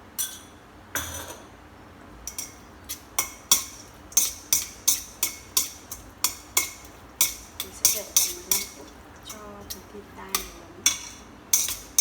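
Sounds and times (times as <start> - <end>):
utensils clinking against bowl: 2.3 - 12.0.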